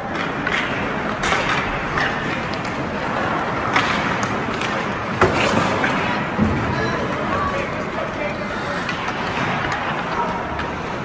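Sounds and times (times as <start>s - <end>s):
hockey sticks clacking on puck: 0.0s - 11.0s
skates scraping ice: 0.0s - 11.0s.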